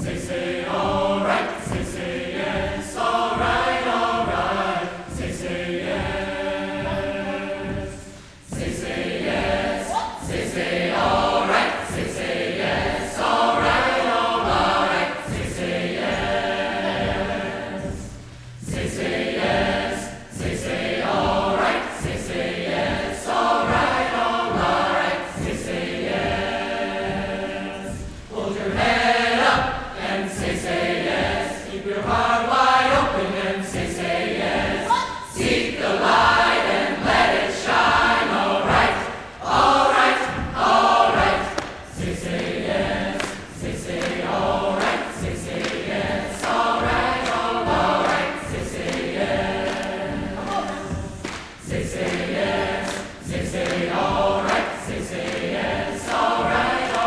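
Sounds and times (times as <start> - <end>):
choir singing in parts: 0.0 - 57.0.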